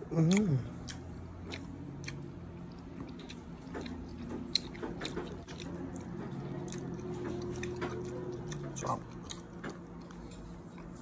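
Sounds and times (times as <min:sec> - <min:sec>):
chewing with mouth clicks: 0:00.0 - 0:11.0
faint low hum: 0:00.0 - 0:11.0.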